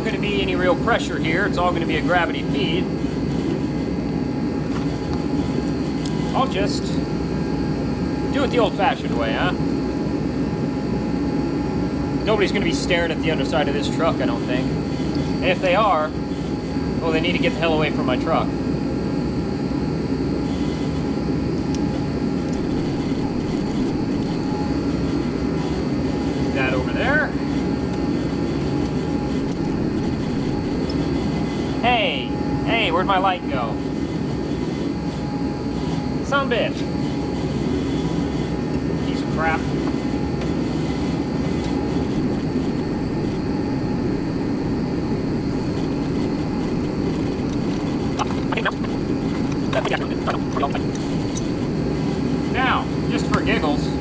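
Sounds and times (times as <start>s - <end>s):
heaters roaring: 0.0s - 54.0s.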